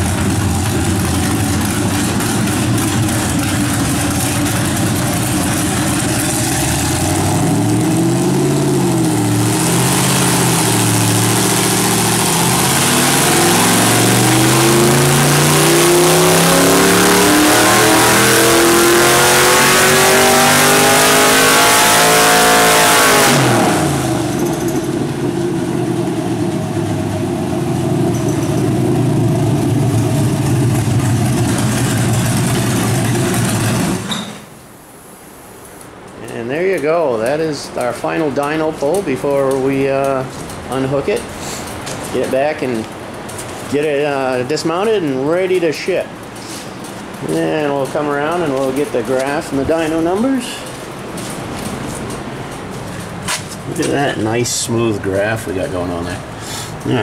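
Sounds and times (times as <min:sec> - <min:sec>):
engine revving and idling: 0:00.0 - 0:34.2, 0:37.2 - 0:57.0.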